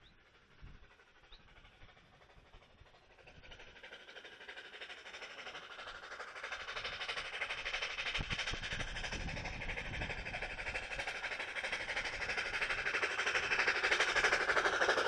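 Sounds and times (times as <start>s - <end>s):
steam locomotive exhaust chuffs: 0.0s - 15.0s.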